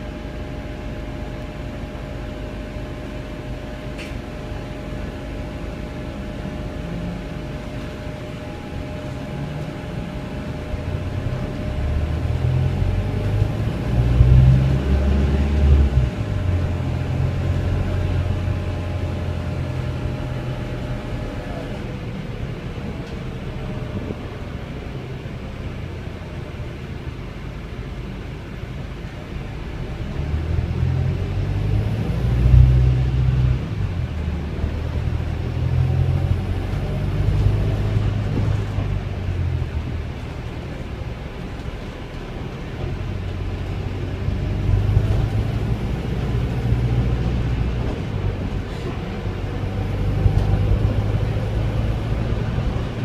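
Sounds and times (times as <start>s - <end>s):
bus diesel engine droning: 0.0s - 53.0s.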